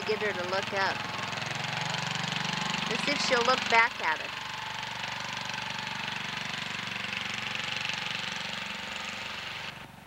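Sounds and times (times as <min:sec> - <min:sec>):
riding lawn mower engine: 0:00.0 - 0:10.0.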